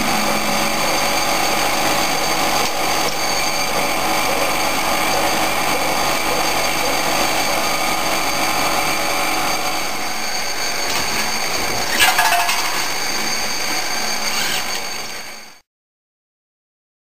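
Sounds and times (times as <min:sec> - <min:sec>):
machine running with high whines: 0:00.0 - 0:15.6.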